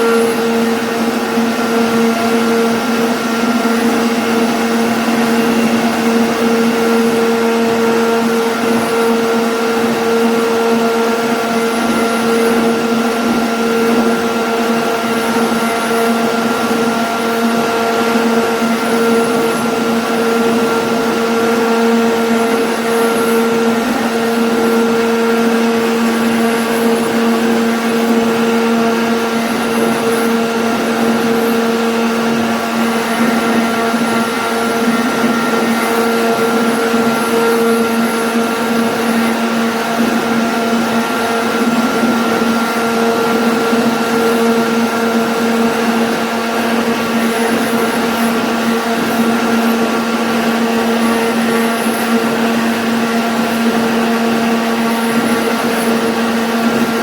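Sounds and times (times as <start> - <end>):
router bit cutting: 0.0 - 57.0
router spindle whine: 0.0 - 57.0.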